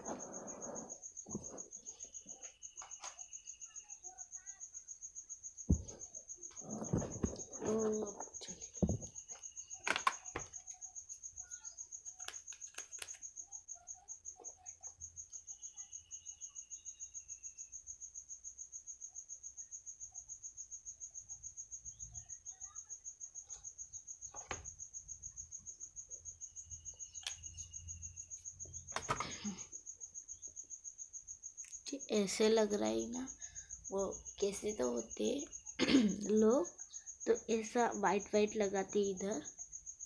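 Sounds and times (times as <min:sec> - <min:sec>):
cricket chirping: 0:00.0 - 0:40.0.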